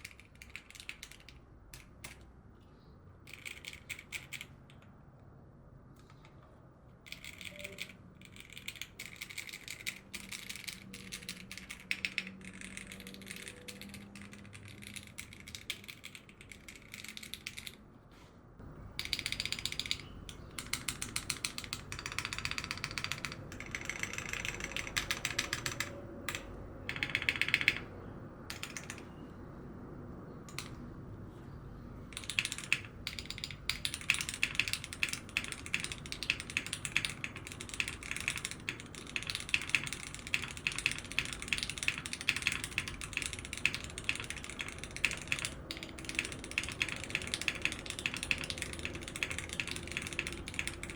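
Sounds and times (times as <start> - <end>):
fast mechanical keyboard typing: 0.0 - 2.2, 3.3 - 4.8, 7.0 - 17.8, 18.6 - 50.9.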